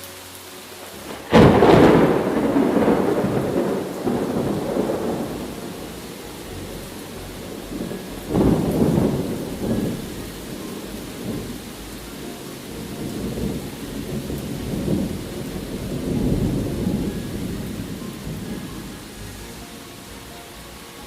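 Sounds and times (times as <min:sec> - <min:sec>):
steady rain: 0:00.0 - 0:21.0
rolling thunder: 0:00.8 - 0:19.6.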